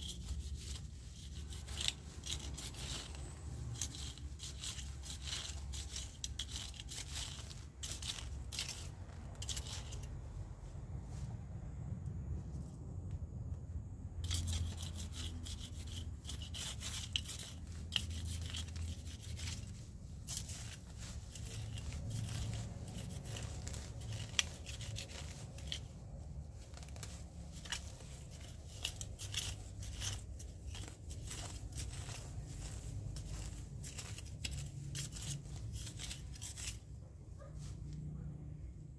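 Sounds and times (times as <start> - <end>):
weeds rustling and tearing: 0.0 - 11.4, 14.2 - 36.9.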